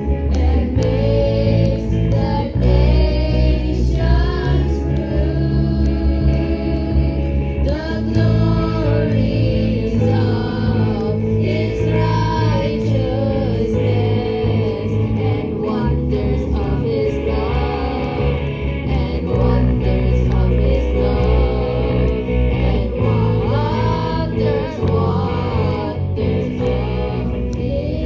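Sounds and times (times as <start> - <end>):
band with bass and keyboard: 0.0 - 28.0
children and woman singing: 0.3 - 28.0.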